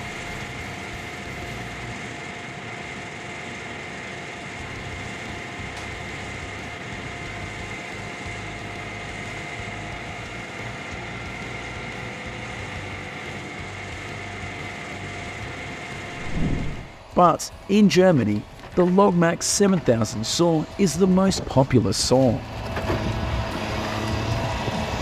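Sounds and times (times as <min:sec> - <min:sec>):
excavator engine drone: 0:00.0 - 0:25.0
hydraulic saw whine: 0:00.0 - 0:25.0.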